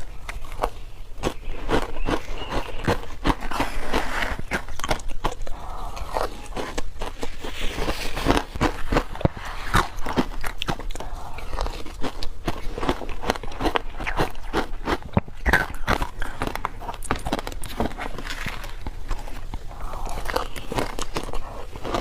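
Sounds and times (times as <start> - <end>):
crunching bites into frozen ice: 0.3 - 22.0.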